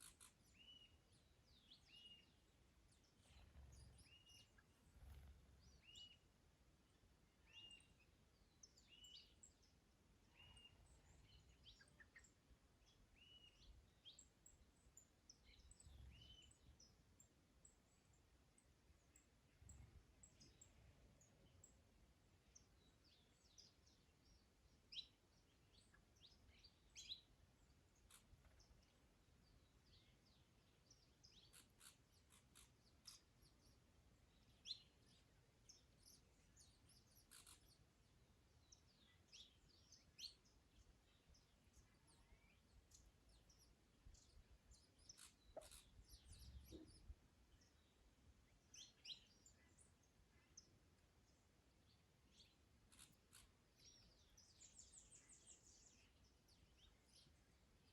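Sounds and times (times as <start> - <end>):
birds chirping: 0.0 - 6.3, 7.3 - 17.0, 22.5 - 57.9.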